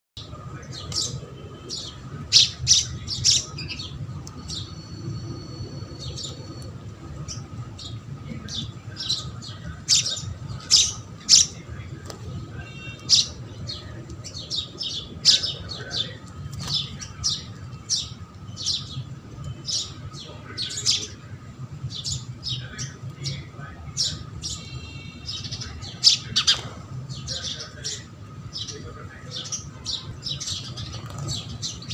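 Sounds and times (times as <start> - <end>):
small birds chirping: 0.2 - 31.9.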